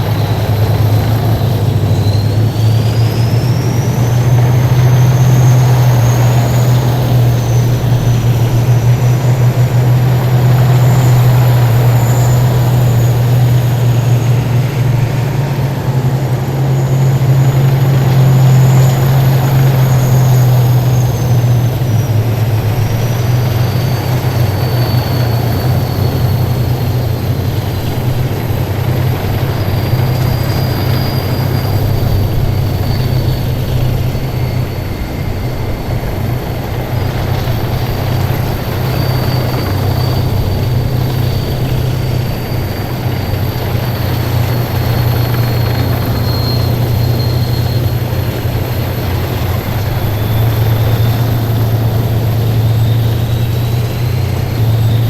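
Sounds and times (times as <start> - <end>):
heavy vehicle engines droning: 0.0 - 55.0
high-pitched whine: 0.0 - 55.0.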